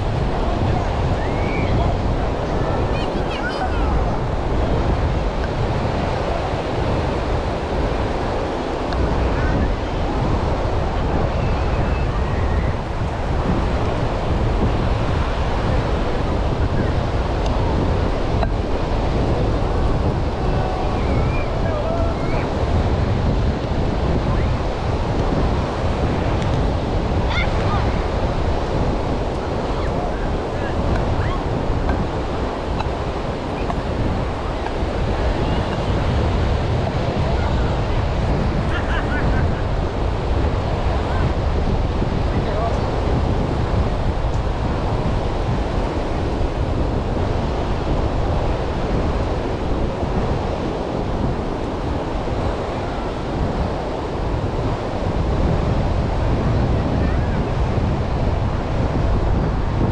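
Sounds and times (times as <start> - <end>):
ocean surf washing: 0.0 - 59.9
wind buffeting microphone: 0.0 - 59.9.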